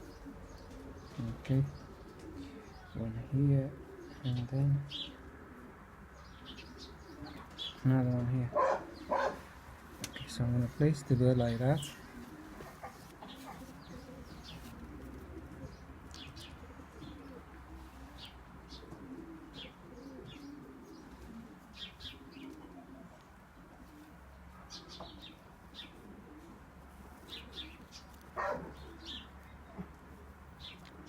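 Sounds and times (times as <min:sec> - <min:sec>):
pigeons cooing: 0:00.0 - 0:31.0
small birds chirping: 0:00.0 - 0:31.0.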